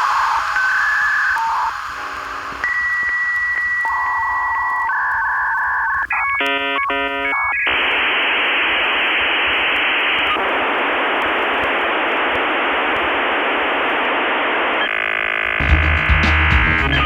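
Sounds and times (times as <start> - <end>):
steady static hiss: 0.0 - 17.0.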